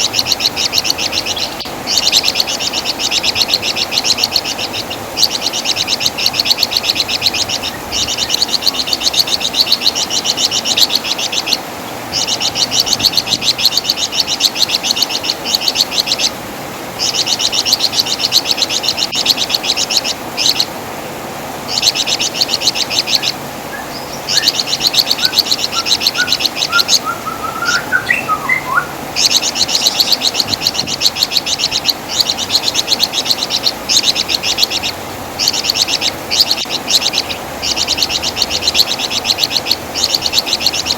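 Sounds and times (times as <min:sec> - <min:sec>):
bird chattering song: 0:00.0 - 0:16.4, 0:17.0 - 0:20.7, 0:21.7 - 0:40.9.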